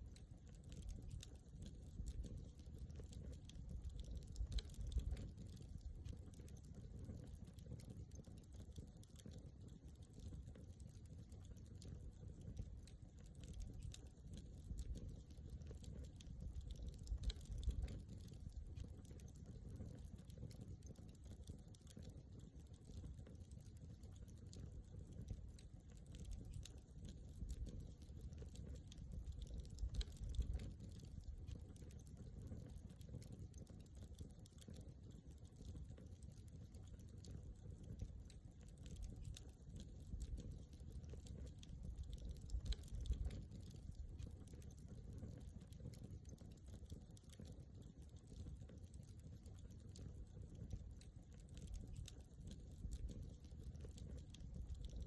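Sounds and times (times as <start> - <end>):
campfire crackling: 0.0 - 55.0
low rumble of flames: 0.0 - 55.0.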